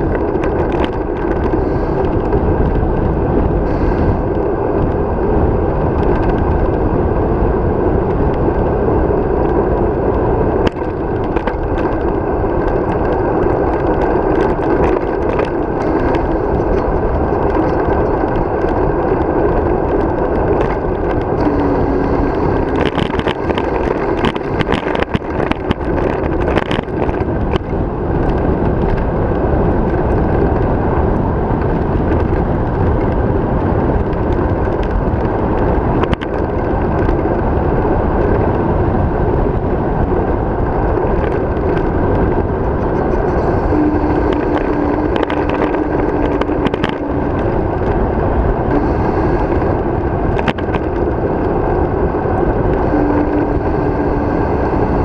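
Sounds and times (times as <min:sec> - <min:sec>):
bicycle clicks and knocks: 0:00.0 - 0:55.0
tyre noise on asphalt: 0:00.0 - 0:55.0
wind rushing over microphone: 0:00.0 - 0:55.0.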